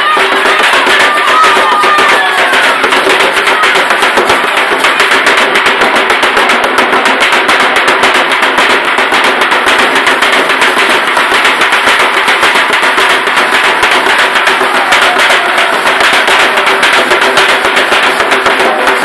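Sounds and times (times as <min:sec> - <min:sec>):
ankle rattles shaking: 0:00.0 - 0:19.0.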